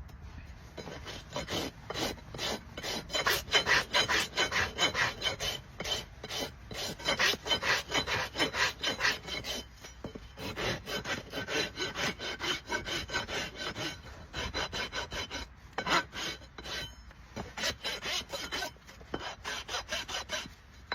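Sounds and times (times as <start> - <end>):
rasp filing hoof: 0.7 - 20.9.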